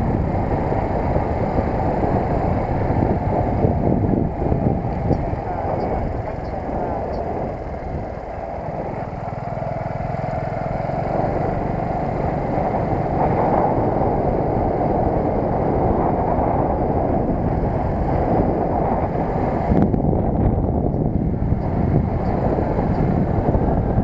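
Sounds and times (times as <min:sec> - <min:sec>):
moped engine running: 0:00.0 - 0:24.0
wind rushing over microphone: 0:00.0 - 0:24.0.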